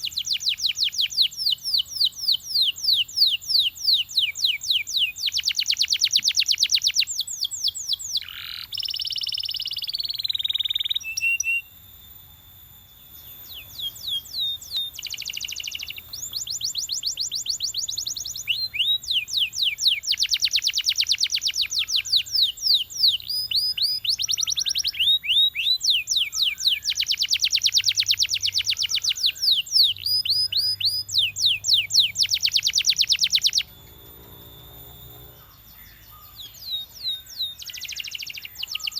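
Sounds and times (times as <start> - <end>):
canary singing: 0.0 - 12.0, 12.6 - 38.9.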